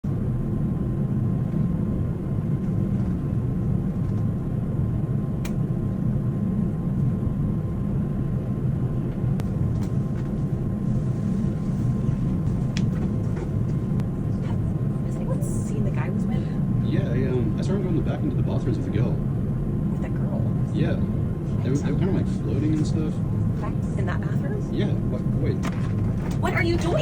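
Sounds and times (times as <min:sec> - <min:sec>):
airliner cabin rumble: 0:00.0 - 0:27.0.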